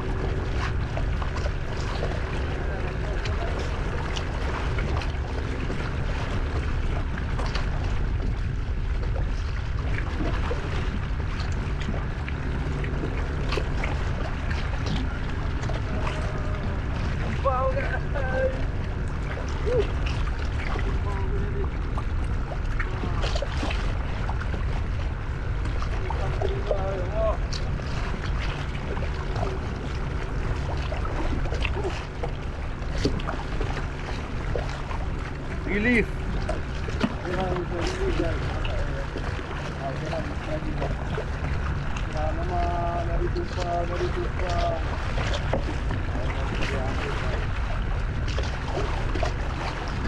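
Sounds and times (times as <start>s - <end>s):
choppy water splashing: 0.0s - 50.0s
wind buffeting microphone: 0.0s - 50.0s.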